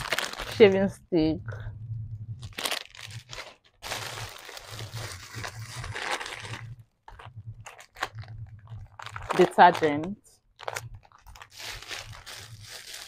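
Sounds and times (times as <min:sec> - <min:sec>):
plastic packaging rustling: 0:00.0 - 0:00.8, 0:02.4 - 0:13.0.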